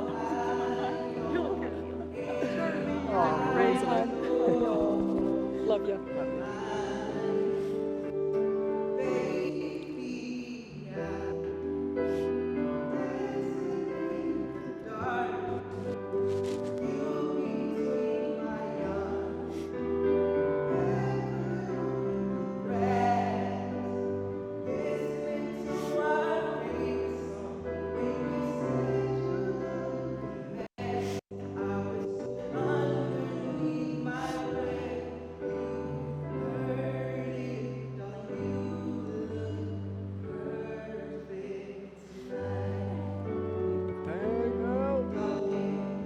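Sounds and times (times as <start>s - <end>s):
slow classical music with singing: 0.0s - 46.0s.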